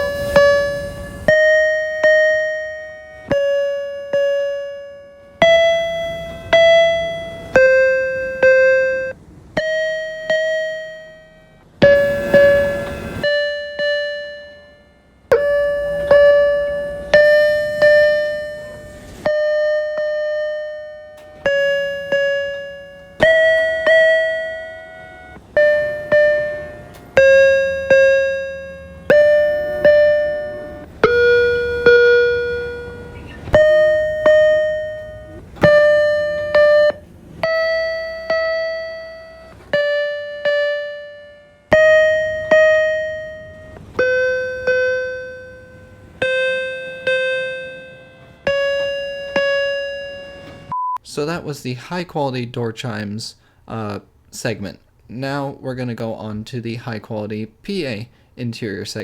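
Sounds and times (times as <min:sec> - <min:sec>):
electronic door chime: 0:00.0 - 0:51.0.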